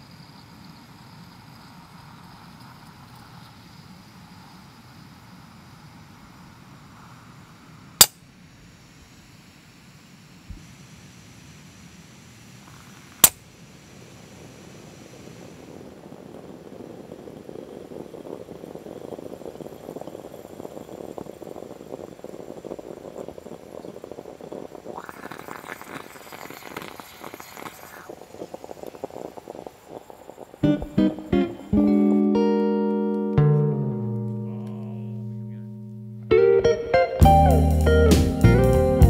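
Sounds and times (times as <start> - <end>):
moka pot gurgling and sputtering: 0.0 - 32.6.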